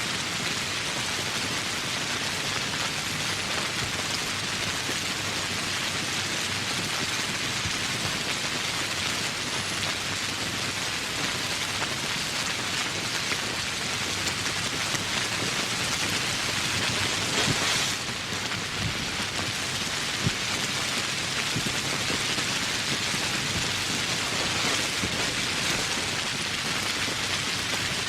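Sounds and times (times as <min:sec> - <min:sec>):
heavy rainfall: 0:00.0 - 0:28.0.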